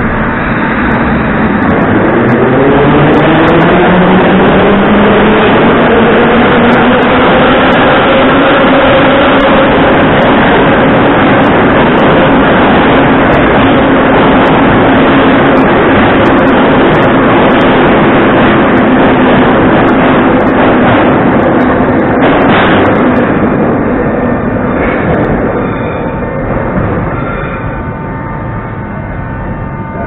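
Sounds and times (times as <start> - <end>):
metro train wheels rumbling on rails: 0.0 - 30.0
train hum: 0.0 - 30.0.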